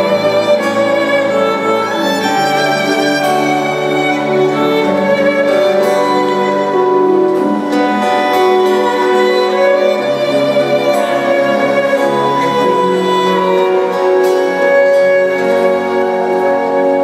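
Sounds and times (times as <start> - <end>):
acoustic guitar strumming: 0.0 - 17.0
live band playing folk ballad: 0.0 - 17.0.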